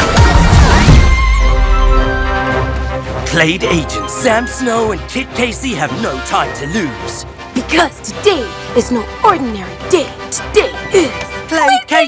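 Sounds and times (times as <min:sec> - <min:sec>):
electronic theme music: 0:00.0 - 0:12.0.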